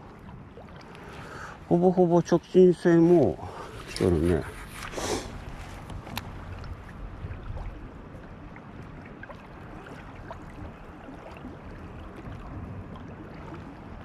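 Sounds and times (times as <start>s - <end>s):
lapping waves: 0.0s - 14.0s
wind: 0.0s - 14.0s.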